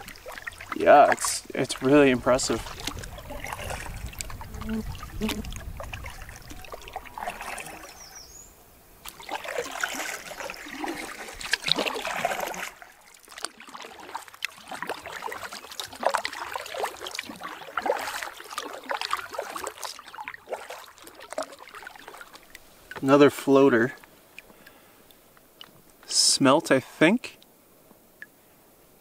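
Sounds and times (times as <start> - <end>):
water splashing against canoe: 0.0 - 26.3.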